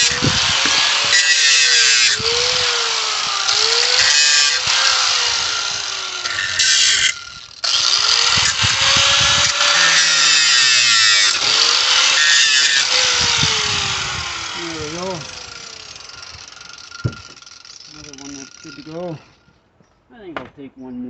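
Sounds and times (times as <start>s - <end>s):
angle grinder cutting nails: 0.0s - 19.3s.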